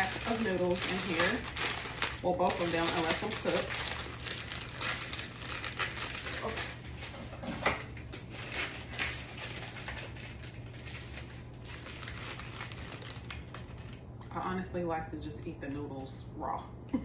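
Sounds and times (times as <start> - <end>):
plastic packet crinkling: 0.0 - 14.3
steady low hum: 0.0 - 17.0.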